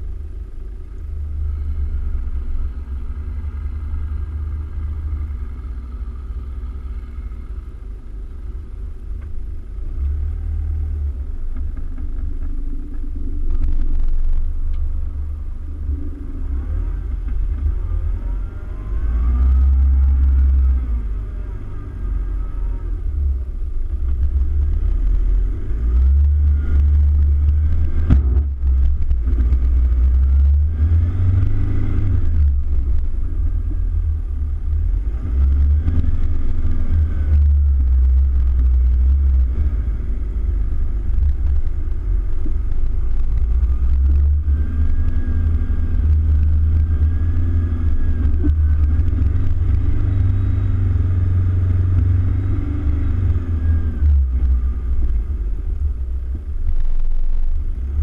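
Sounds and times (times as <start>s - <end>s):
heavy deep rumble: 0.0s - 58.0s
vehicle engine revving: 0.0s - 58.0s.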